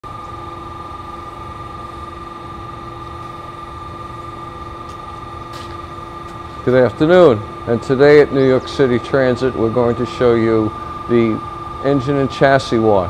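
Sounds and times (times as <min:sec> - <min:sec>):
low machinery rumble: 0:00.0 - 0:13.0
steady machine whining tones: 0:00.0 - 0:13.0.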